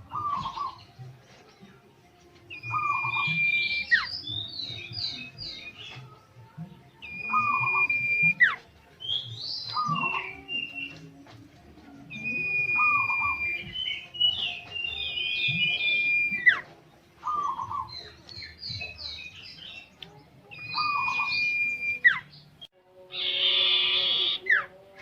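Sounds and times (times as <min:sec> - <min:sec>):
songbird whistling song: 0:00.0 - 0:25.0.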